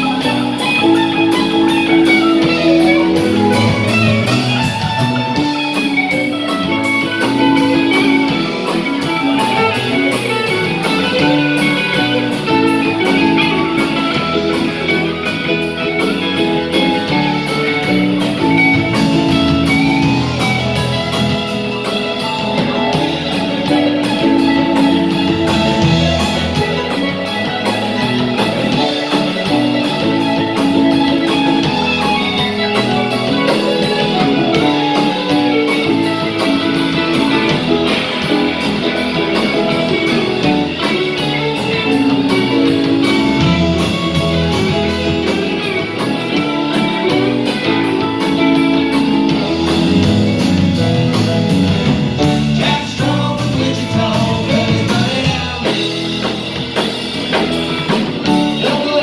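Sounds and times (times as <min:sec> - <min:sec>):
bass: 0:00.0 - 0:59.0
drum kit beat: 0:00.0 - 0:59.0
electric guitar: 0:00.0 - 0:59.0.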